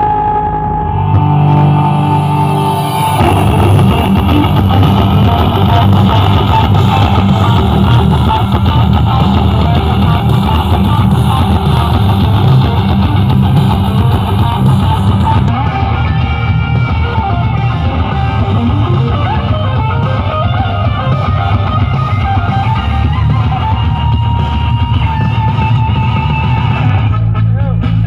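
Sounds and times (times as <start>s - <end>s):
loud rock music: 0.0s - 28.0s.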